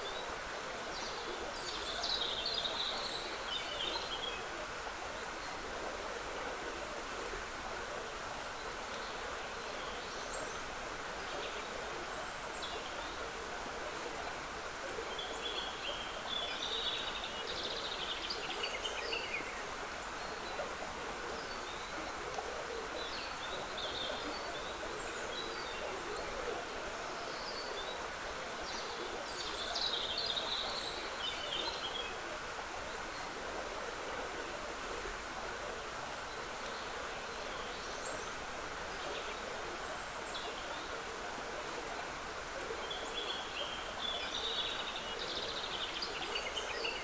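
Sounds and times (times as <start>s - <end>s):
small stream trickling: 0.0s - 47.0s.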